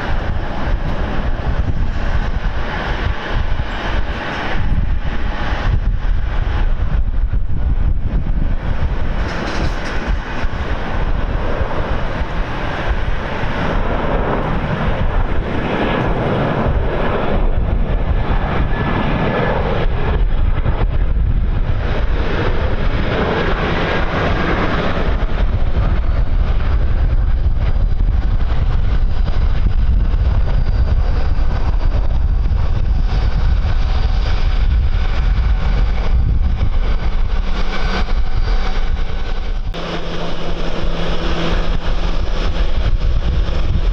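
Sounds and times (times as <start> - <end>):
jet engines rumbling: 0.0 - 43.9
wind buffeting on microphone: 0.0 - 43.9.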